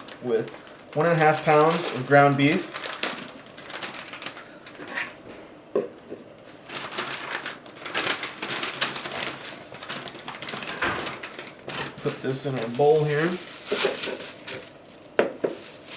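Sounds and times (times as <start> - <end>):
plastic packaging crinkling: 0.0 - 4.9, 6.6 - 15.9.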